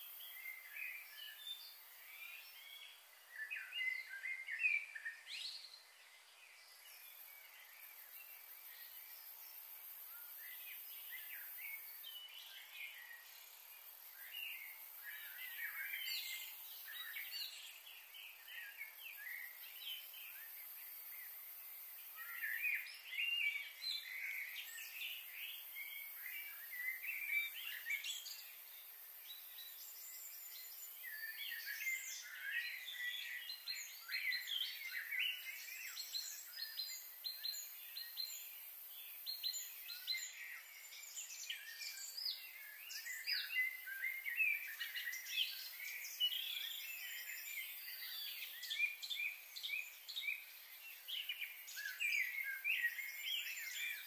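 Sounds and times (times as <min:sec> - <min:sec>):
small birds chirping: 0:00.0 - 0:54.0
steady high hiss: 0:00.0 - 0:54.0.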